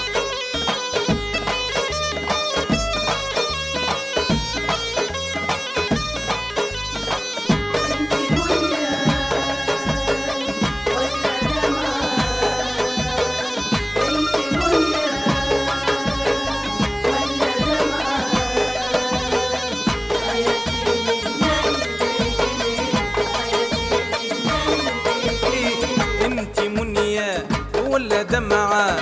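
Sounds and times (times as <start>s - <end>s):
bagpipe melody: 0.0s - 26.6s
steady drum beat: 0.0s - 29.0s.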